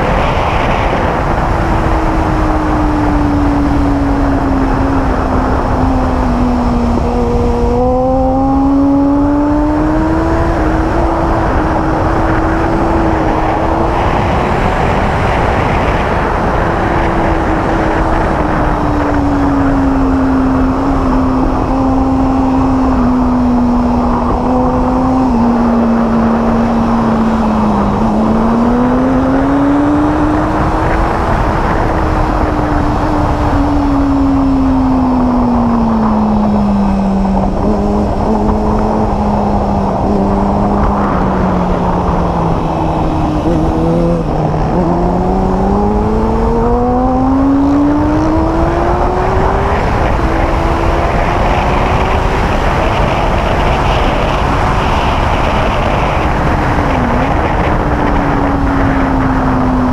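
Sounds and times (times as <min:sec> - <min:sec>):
motorcycle engine at speed: 0:00.0 - 0:59.9
wind noise: 0:00.0 - 0:59.9.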